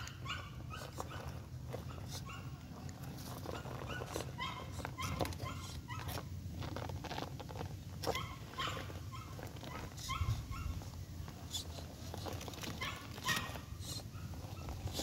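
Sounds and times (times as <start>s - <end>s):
animal yipping: 0.0s - 2.6s, 3.3s - 6.3s, 8.0s - 15.0s.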